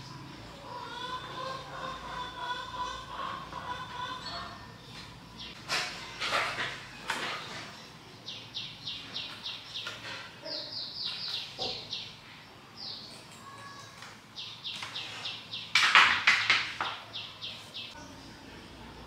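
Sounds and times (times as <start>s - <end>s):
small bird chirping: 0.0s - 15.7s.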